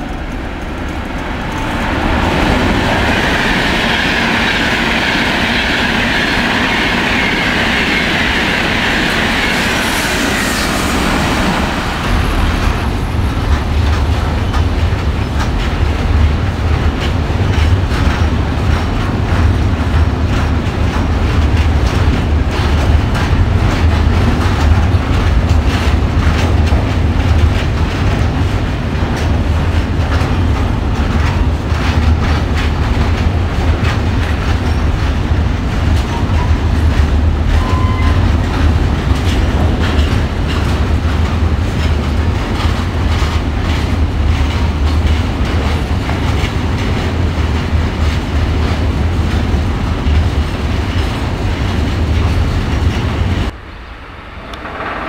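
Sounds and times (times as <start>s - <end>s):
freight train wheels clattering: 0.0s - 53.6s.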